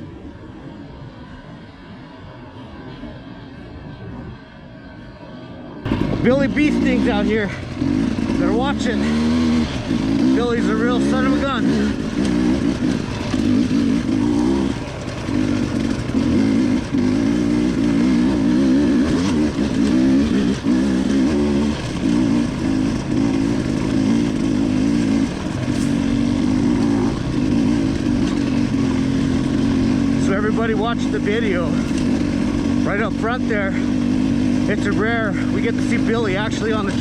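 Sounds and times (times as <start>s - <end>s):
dirt bike engine revving: 5.8s - 37.0s.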